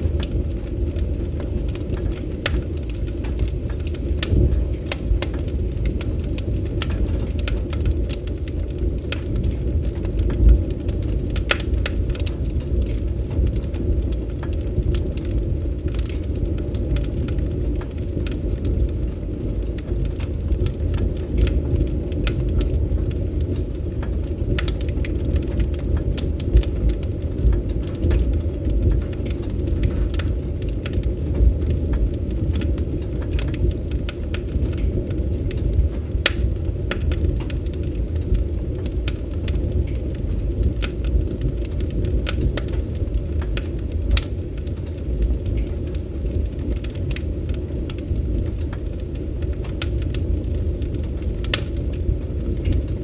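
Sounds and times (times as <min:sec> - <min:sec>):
fire crackling in fireplace: 0:00.0 - 0:53.0.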